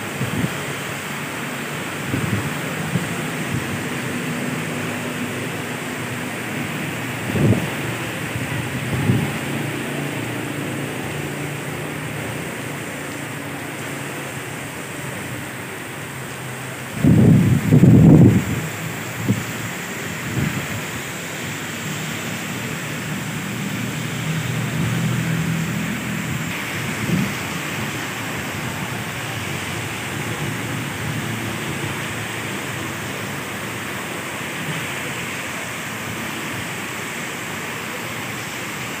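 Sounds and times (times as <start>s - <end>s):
heavy rain pouring: 0.0s - 39.0s
vehicle engine through water: 0.0s - 39.0s.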